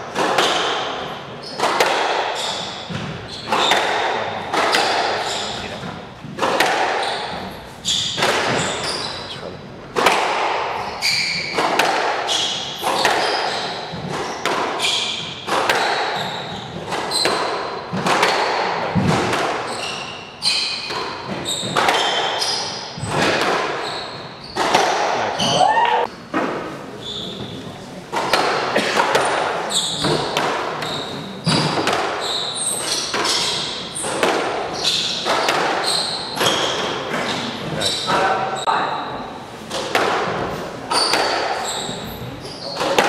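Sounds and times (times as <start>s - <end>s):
squash ball hitting rackets and walls: 0.0s - 9.2s, 9.9s - 26.8s, 28.1s - 43.0s
shoes squeaking on court floor: 0.4s - 9.4s, 10.8s - 18.6s, 19.6s - 26.1s, 26.9s - 39.5s, 40.5s - 43.0s.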